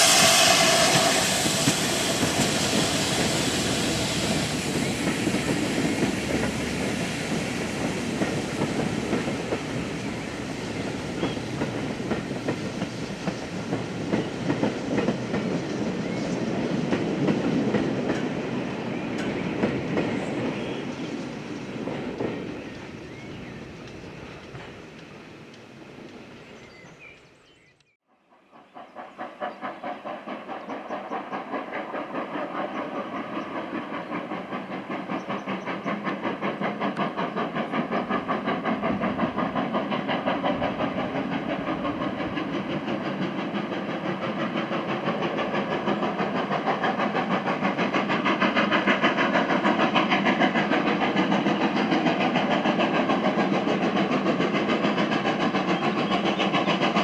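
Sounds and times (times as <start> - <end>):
steam locomotive exhaust beats: 0.0 - 26.2, 28.5 - 57.0.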